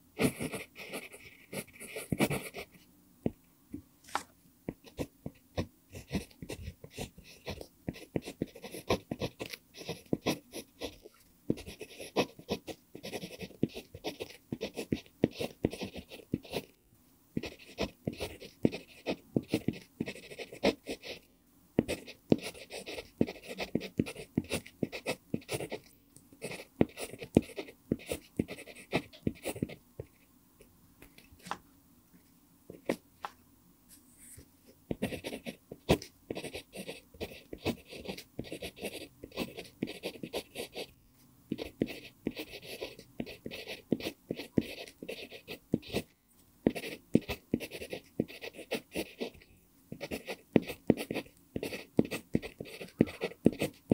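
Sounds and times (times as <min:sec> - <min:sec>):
pencil scratching on paper: 0:00.2 - 0:02.8, 0:05.9 - 0:16.7, 0:17.4 - 0:21.2, 0:21.8 - 0:30.2, 0:34.2 - 0:40.9, 0:41.5 - 0:46.1, 0:46.7 - 0:53.9.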